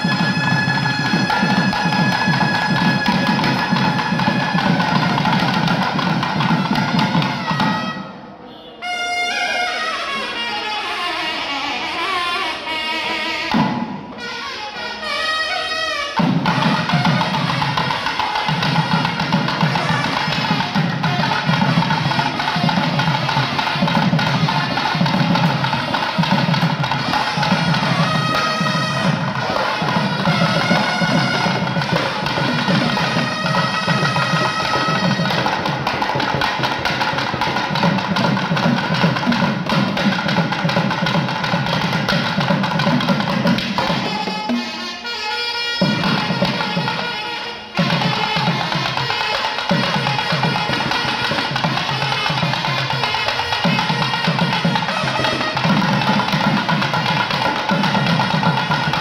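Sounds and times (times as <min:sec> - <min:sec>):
barrel drums beaten fast: 0:00.0 - 0:08.0, 0:16.2 - 0:44.7, 0:47.8 - 0:59.0
reedy wind instrument: 0:00.0 - 0:59.0.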